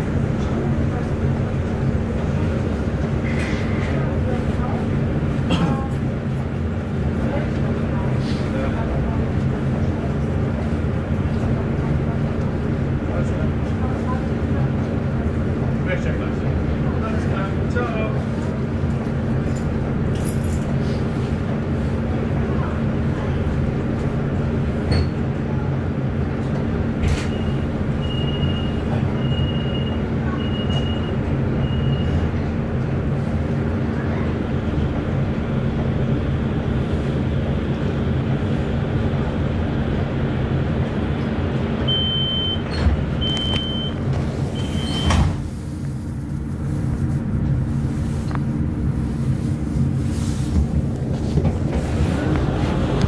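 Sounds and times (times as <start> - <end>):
light rail car drone: 0.0 - 53.0.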